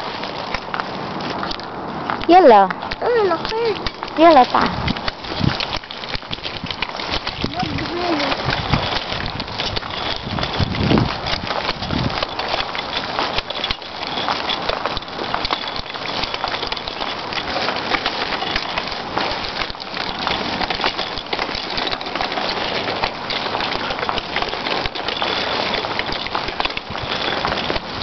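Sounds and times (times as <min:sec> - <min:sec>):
small bicycle rattling over bricks: 0:00.0 - 0:28.0.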